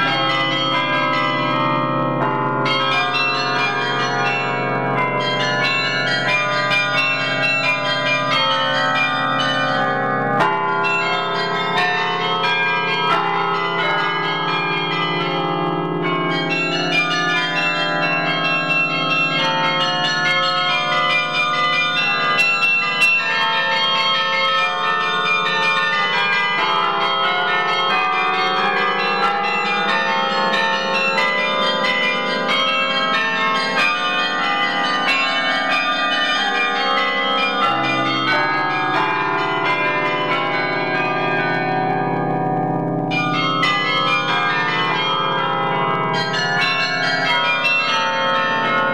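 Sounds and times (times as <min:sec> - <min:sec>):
carillon bells playing: 0:00.0 - 0:48.9.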